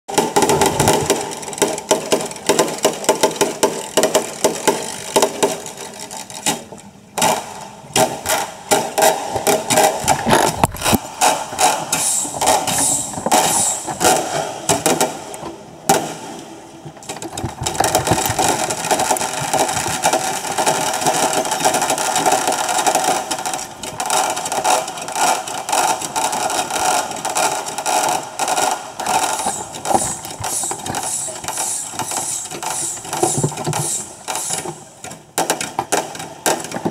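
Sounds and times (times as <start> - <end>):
rattle of clicks and pops: 0.1 - 16.2, 17.0 - 36.9.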